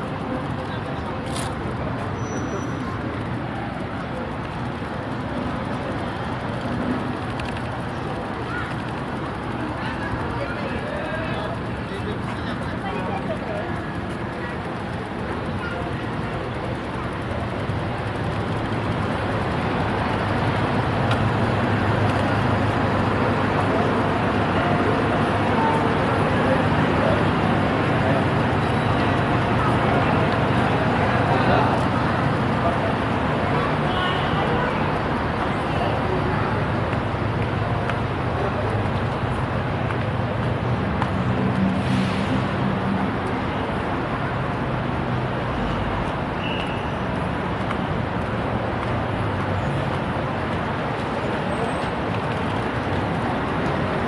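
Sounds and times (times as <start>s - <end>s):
road and traffic noise: 0.0s - 54.0s.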